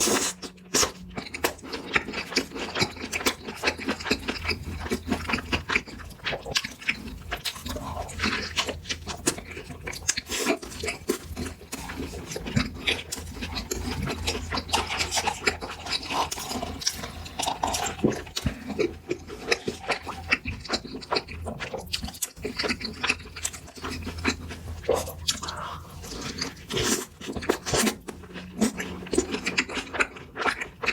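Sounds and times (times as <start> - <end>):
close chewing and biting: 0.0 - 30.9.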